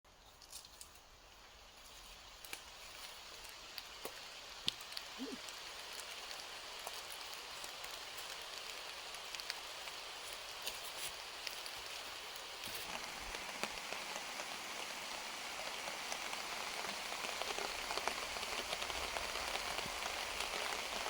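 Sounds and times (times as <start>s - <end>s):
rain hissing: 0.1s - 21.0s
single raindrops ticking: 0.3s - 20.9s.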